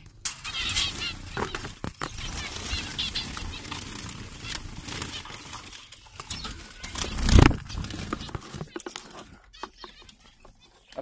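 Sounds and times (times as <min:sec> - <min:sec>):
birds fluttering wings: 0:00.0 - 0:11.0
rustling: 0:00.0 - 0:11.0.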